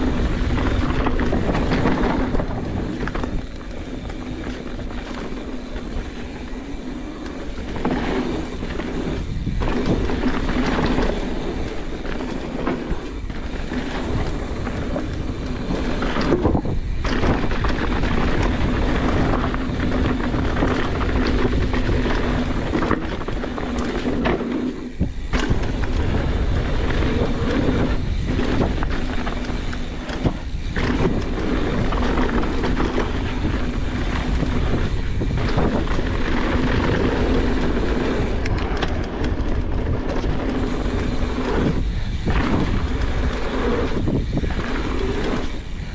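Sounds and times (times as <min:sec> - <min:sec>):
bike rattling over bumps: 0:00.0 - 0:45.9
bike tyre noise: 0:00.0 - 0:45.9
wind on microphone: 0:00.0 - 0:45.9.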